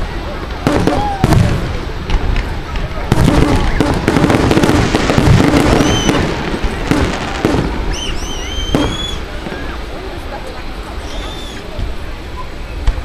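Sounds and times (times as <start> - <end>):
fireworks bangs and crackling: 0.0 - 13.0
fireworks whistling: 0.0 - 13.0.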